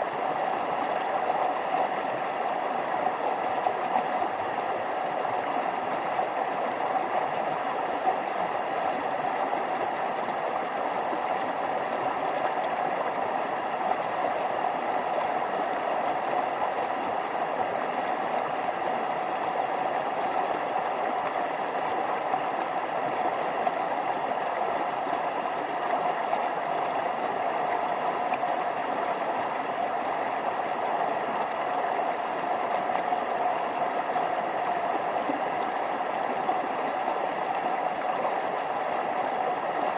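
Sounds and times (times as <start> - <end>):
stream running over waterfalls: 0.2 - 39.9.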